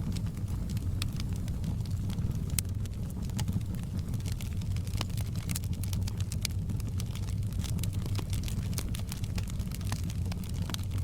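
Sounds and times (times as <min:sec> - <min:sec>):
fire crackling and popping: 0:00.0 - 0:11.0
fire flames rumbling: 0:00.0 - 0:11.0.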